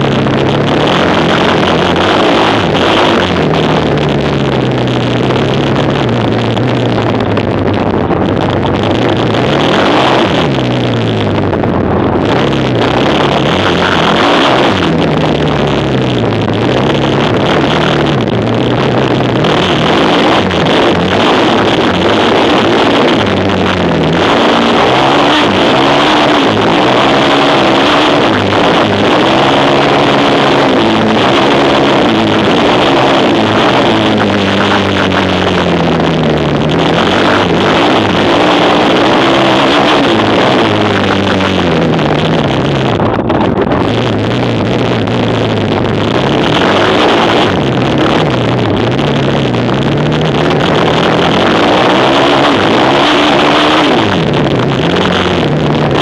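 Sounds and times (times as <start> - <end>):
quad engines racing: 0.0 - 56.0.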